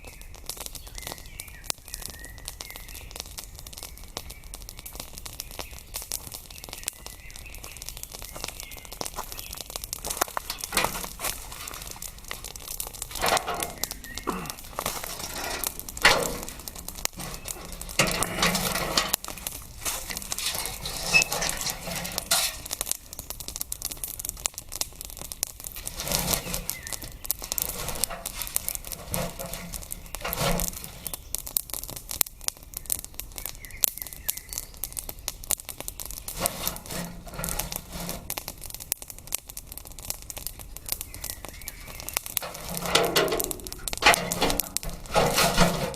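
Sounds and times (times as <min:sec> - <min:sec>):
crackling and rustling: 0:00.0 - 0:45.9.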